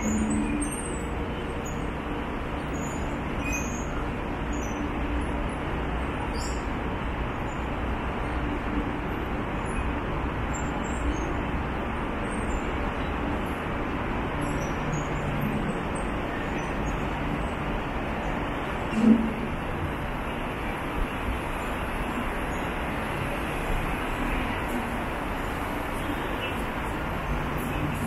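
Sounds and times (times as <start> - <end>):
city traffic rumble: 0.0 - 28.0.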